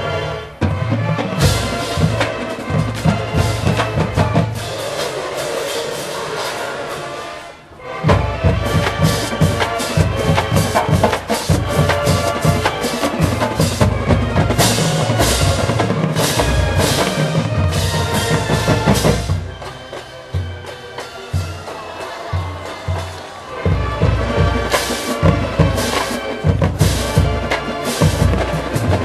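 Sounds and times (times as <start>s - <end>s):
marching band drumline: 0.1s - 6.6s, 8.0s - 29.0s.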